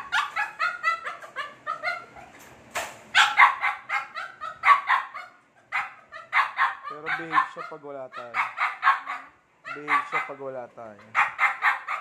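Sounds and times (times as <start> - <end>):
puppy yipping and whining: 0.0 - 2.5, 3.1 - 10.4, 11.0 - 12.0.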